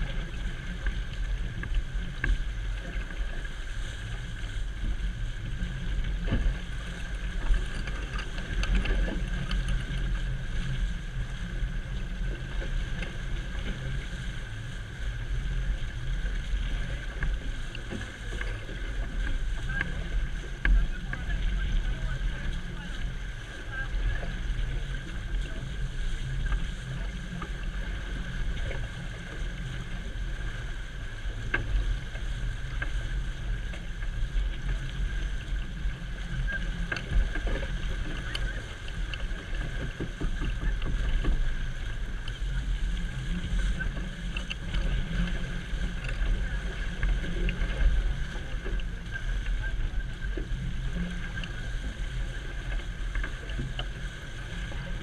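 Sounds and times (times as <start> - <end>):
water rushing in boat wake: 0.0 - 55.0.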